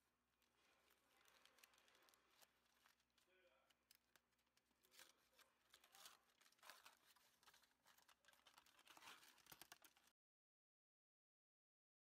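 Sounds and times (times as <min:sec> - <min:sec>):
aluminium foil crinkling: 0:00.2 - 0:10.2.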